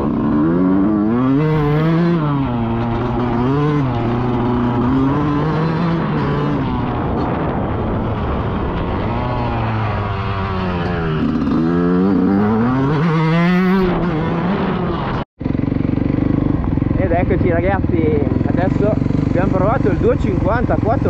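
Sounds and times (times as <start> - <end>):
motocross bike engine revving: 0.0 - 21.0.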